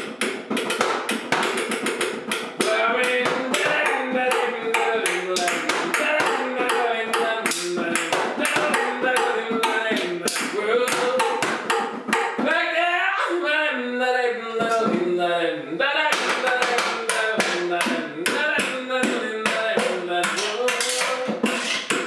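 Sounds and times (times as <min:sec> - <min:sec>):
knocks on household objects: 0:00.0 - 0:12.3, 0:16.1 - 0:22.0
hand-slapped bongos: 0:00.0 - 0:12.6, 0:16.0 - 0:22.0
person singing: 0:02.6 - 0:22.0.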